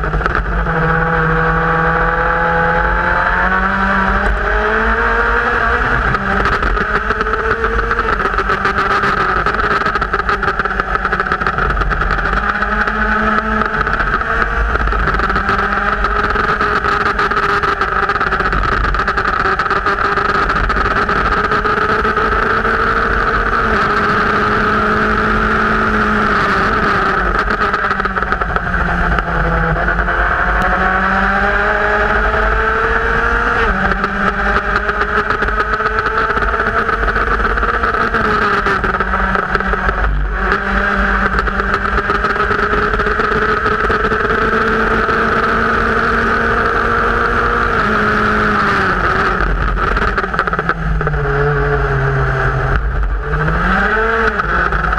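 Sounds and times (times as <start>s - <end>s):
race car engine: 0.0s - 54.9s.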